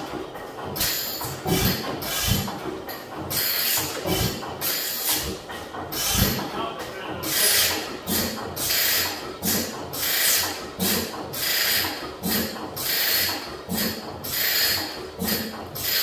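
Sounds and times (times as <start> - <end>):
engine hissing puffs: 0.0 - 6.5, 7.1 - 16.0
engine mechanical clatter: 0.0 - 16.0.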